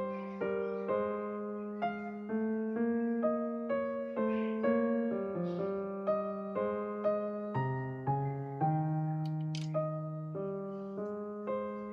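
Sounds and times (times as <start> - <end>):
gentle piano melody: 0.0 - 11.9.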